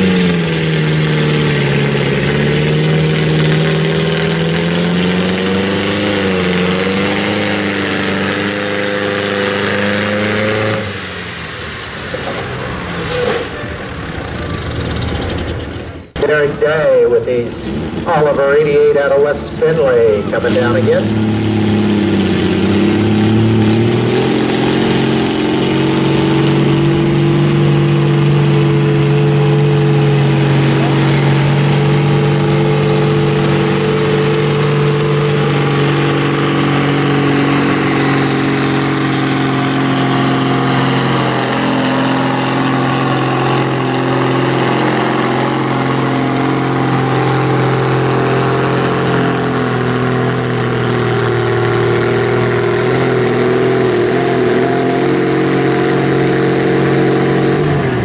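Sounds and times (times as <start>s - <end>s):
tractor engine running under load: 0.0s - 58.0s.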